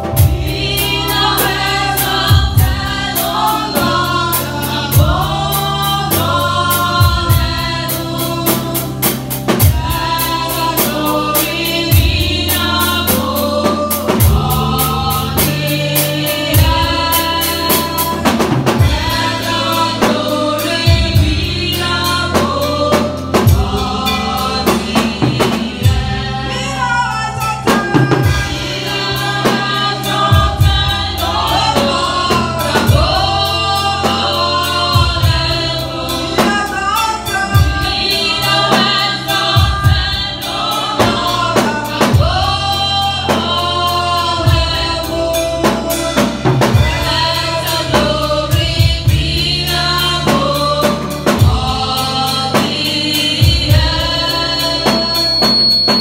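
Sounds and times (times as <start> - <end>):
deep bass line: 0.0 - 54.9
drum kit beat: 0.0 - 56.0
voices singing together: 0.0 - 56.0.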